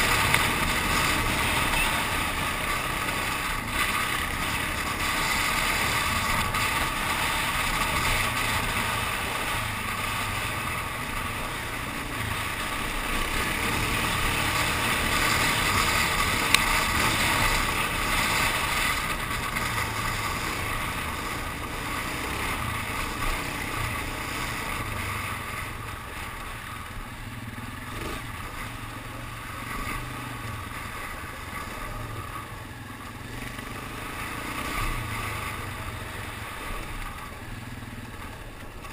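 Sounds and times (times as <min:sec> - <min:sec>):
atv engine running: 0:00.0 - 0:38.9
wind and tyre noise: 0:00.0 - 0:38.9.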